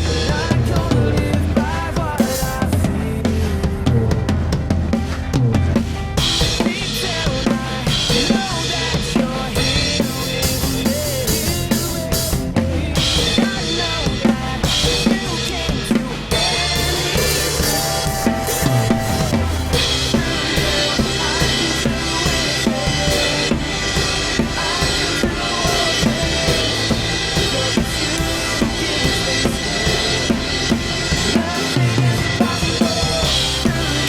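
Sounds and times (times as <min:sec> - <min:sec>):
drum kit playing a groove: 0:00.0 - 0:34.0
recorded song: 0:00.0 - 0:34.0.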